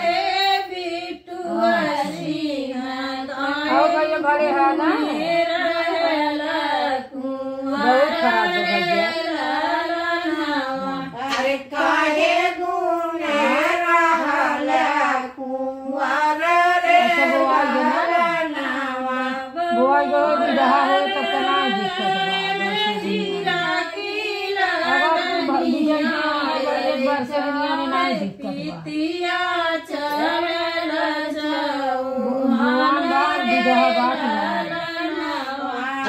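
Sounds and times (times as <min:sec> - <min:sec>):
women singing folk song: 0:00.0 - 0:36.0.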